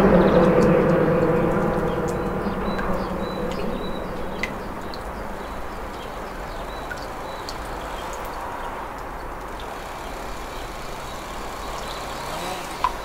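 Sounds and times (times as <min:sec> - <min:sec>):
faint ticks: 0:00.4 - 0:13.0.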